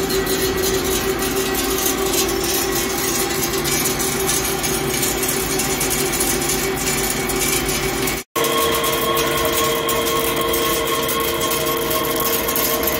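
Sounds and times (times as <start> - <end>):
lathe running: 0.0 - 12.9.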